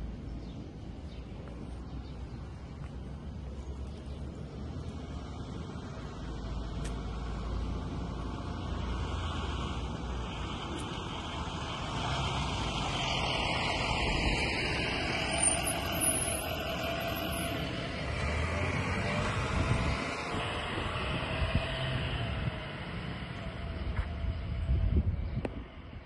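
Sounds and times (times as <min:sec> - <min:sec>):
tyre and road noise: 0:00.0 - 0:26.0
vehicle engine rumble passing: 0:00.0 - 0:26.0.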